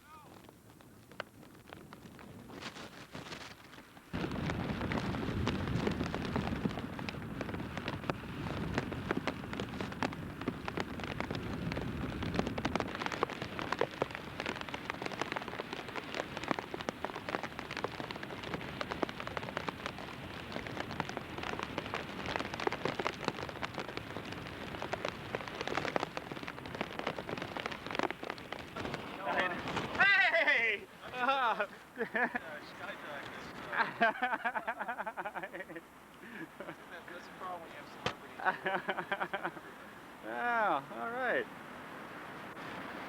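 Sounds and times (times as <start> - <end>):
heavy rain pelting down: 0.0 - 43.0.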